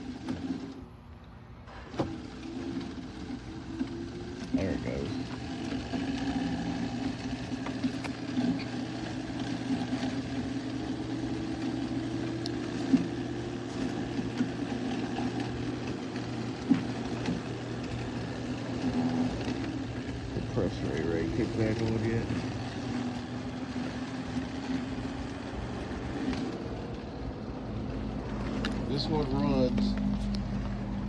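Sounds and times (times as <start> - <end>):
air conditioner fan humming: 0.0 - 31.0.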